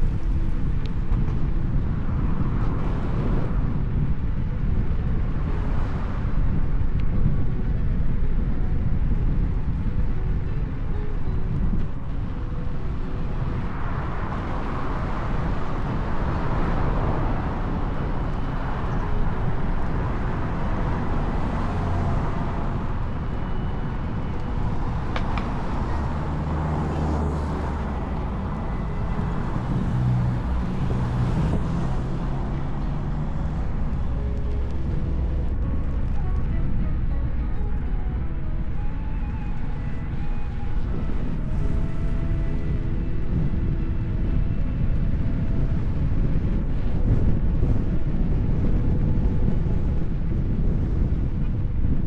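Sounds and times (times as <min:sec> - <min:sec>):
passing vehicle engine hum: 0:00.0 - 0:52.0
road and traffic noise: 0:00.0 - 0:52.0
wind rushing over microphone: 0:00.0 - 0:52.0.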